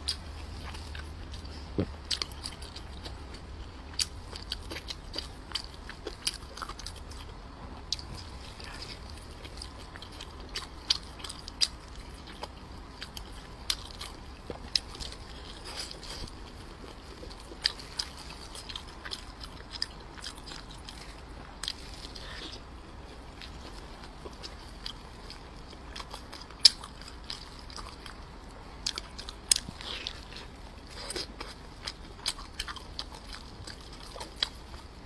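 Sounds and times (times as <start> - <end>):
chewing dumpling: 0.0 - 35.0.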